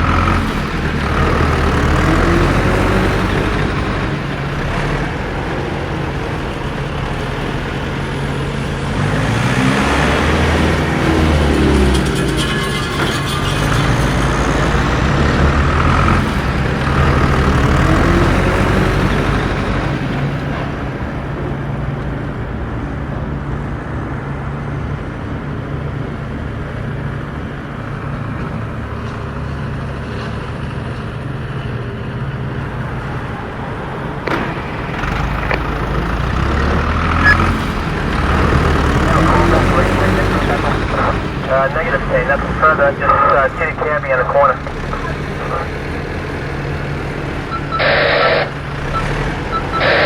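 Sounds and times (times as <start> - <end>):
off-road vehicle engine revving: 0.0 - 22.9, 31.6 - 50.0.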